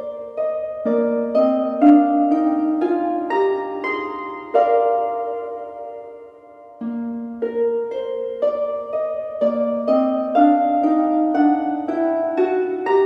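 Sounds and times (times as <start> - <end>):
harp-like plucked melody: 0.0 - 13.0.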